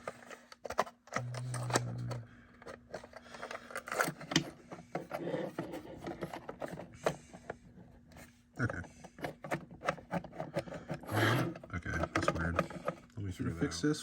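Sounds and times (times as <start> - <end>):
plastic clicks and scrapes: 0.0 - 13.2.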